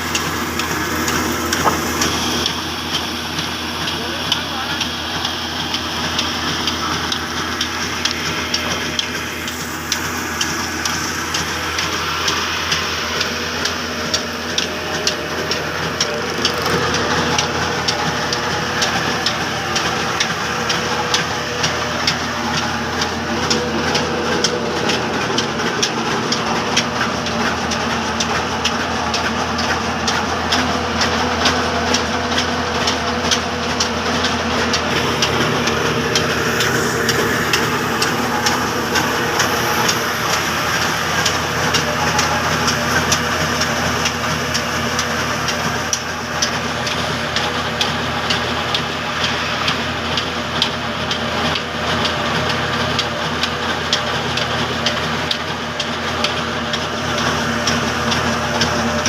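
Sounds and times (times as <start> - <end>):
diesel engine knocking: 0.0 - 59.0
low engine hum: 0.0 - 59.0.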